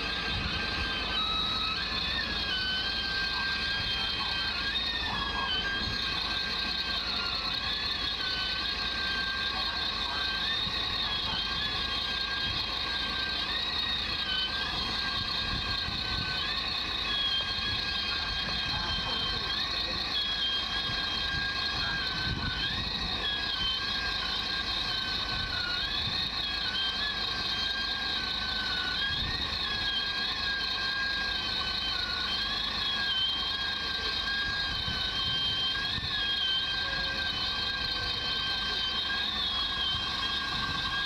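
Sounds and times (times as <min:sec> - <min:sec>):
machinery with high whine: 0:00.0 - 0:41.0.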